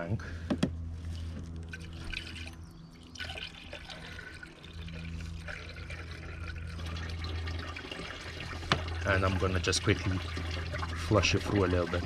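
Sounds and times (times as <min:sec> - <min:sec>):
steady low hum: 0:00.0 - 0:12.0
water pouring and trickling: 0:01.1 - 0:12.0.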